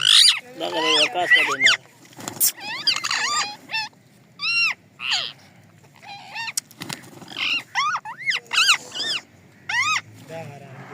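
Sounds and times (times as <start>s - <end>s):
parakeets screeching: 0.0s - 10.9s.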